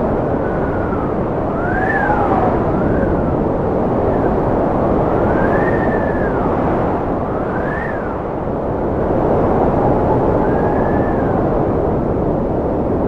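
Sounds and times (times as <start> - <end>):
strong wind rushing: 0.0 - 13.0
wind whistling: 0.0 - 13.0.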